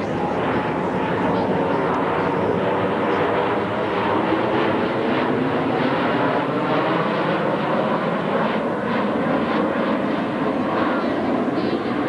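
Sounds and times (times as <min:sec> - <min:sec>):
jet engine noise: 0:00.0 - 0:12.0.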